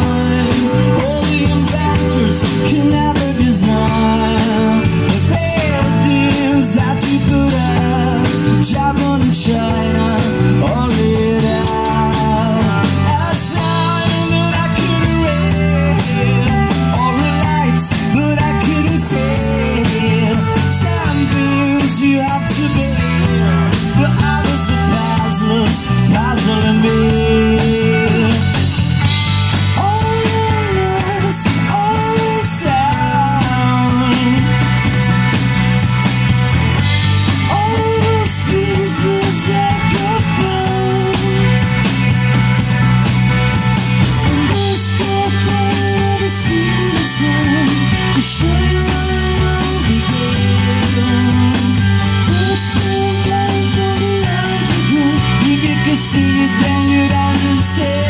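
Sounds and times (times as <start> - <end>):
man singing into a microphone: 0.0 - 35.0, 37.4 - 41.8, 44.3 - 58.0
drum kit: 0.0 - 58.0
electric bass: 0.0 - 58.0
electric guitar: 0.0 - 58.0.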